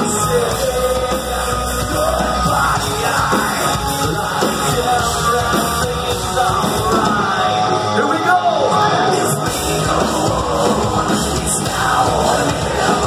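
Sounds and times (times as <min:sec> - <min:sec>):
heavy metal band playing live: 0:00.0 - 0:13.0.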